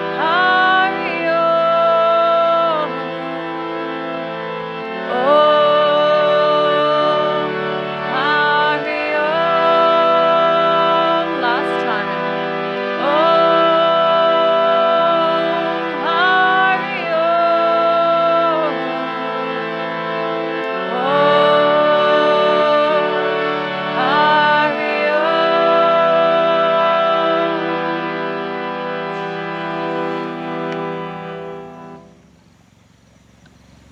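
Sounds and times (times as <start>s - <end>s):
person chanting long notes: 0.0s - 32.2s
harmonium drone: 0.0s - 33.0s.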